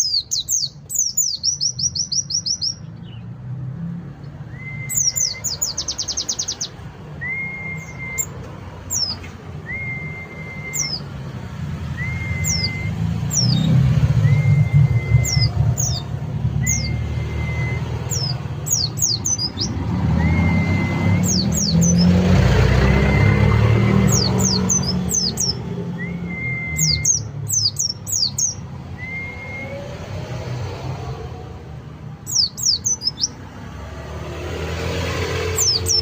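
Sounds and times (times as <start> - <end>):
bird chirping and whistling: 0.0 - 3.2, 4.4 - 31.3, 32.2 - 33.5, 34.4 - 36.0.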